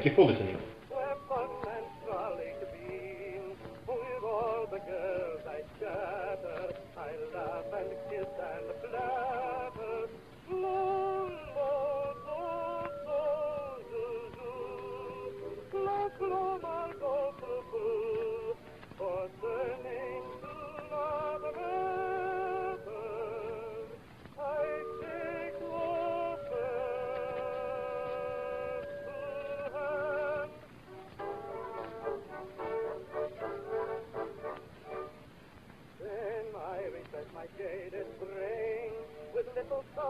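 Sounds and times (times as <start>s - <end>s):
person singing with vibrato: 0.0s - 35.2s, 36.0s - 40.0s
musical accompaniment: 0.0s - 35.3s.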